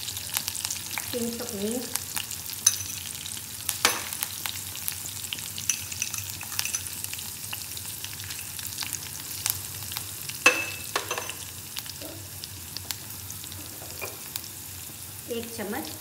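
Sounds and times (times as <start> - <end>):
spices sizzling in hot oil: 0.0 - 16.0.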